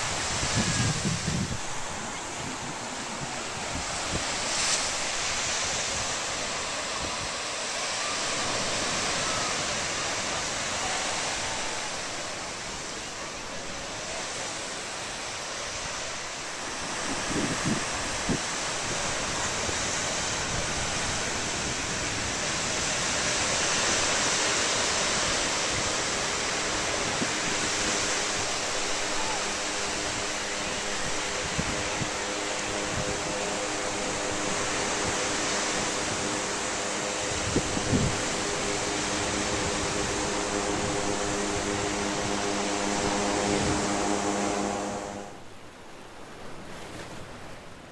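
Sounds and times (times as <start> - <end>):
wind on microphone: 0.0 - 45.5
waves breaking on sand beach: 0.0 - 47.9.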